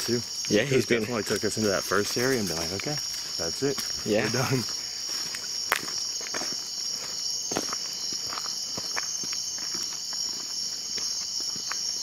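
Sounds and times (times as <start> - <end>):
night insects chirping: 0.0 - 12.0
footsteps on path: 1.0 - 12.0.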